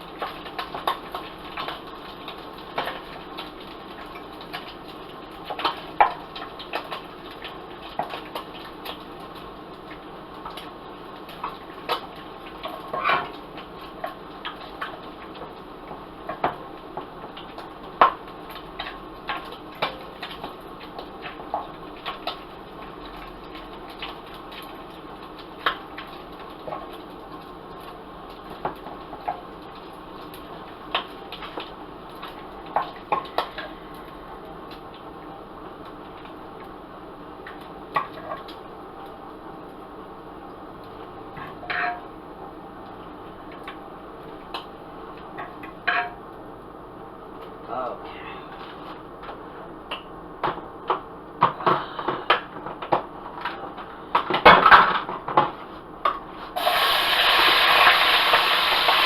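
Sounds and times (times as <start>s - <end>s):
oil crackling and popping: 0.0s - 42.2s, 42.8s - 46.5s, 48.6s - 59.0s
vegetables sizzling in oil: 0.0s - 46.6s, 56.3s - 59.0s.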